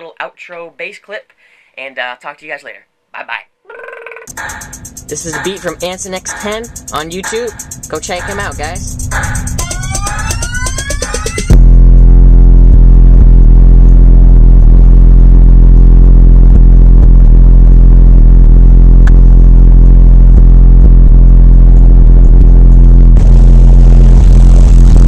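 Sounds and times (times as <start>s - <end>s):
distorted deep bass drone: 4.3s - 25.0s.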